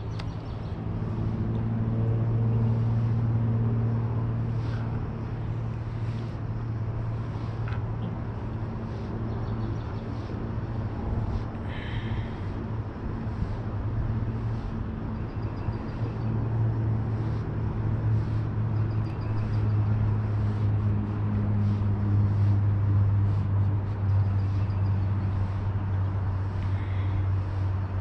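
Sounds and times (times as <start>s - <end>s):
distant road traffic drone: 0.0s - 28.0s.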